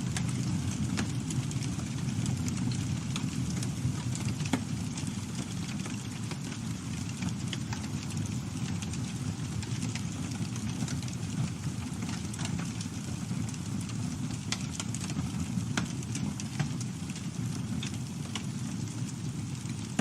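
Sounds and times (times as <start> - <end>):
low rush of flames: 0.0 - 20.0
wood crackling and popping: 0.0 - 20.0.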